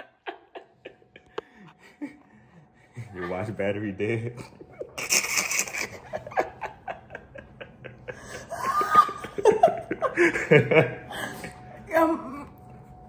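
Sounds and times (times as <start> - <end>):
people laughing: 0.0 - 3.6, 4.4 - 11.6.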